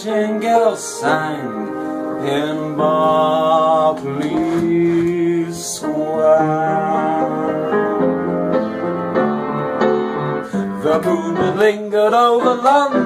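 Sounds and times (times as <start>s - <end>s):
man singing: 0.0s - 8.6s, 10.5s - 13.0s
piano accompaniment: 0.0s - 13.0s.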